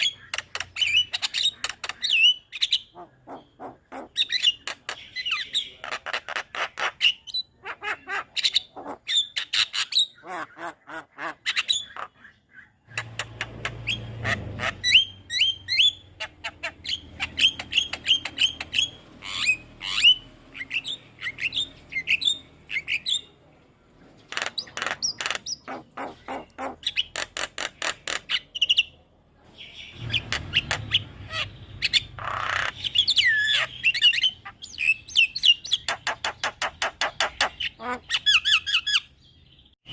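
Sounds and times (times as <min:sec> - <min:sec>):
bird chattering and whistling: 0:00.0 - 0:23.4, 0:24.2 - 0:39.2.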